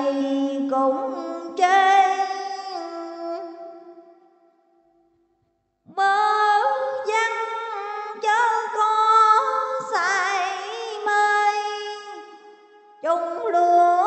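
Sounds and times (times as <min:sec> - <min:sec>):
woman chanting: 0:00.0 - 0:03.9, 0:05.9 - 0:12.4, 0:13.0 - 0:14.0.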